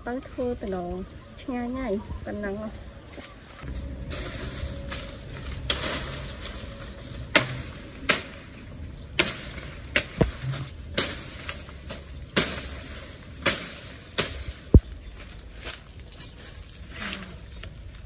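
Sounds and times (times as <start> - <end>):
leaves rustling: 0.0 - 18.0
plant stalks being chopped: 3.2 - 18.0.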